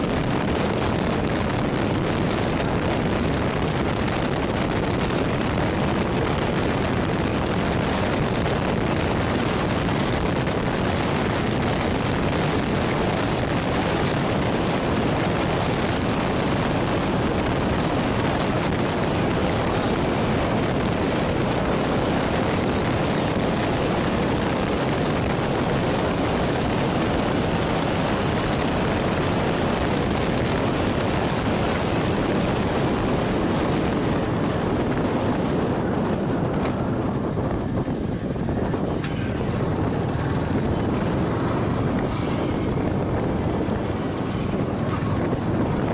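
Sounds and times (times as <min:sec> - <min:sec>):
motorcycle engine running: 0:00.0 - 0:45.9
wind rushing on microphone: 0:00.0 - 0:45.9.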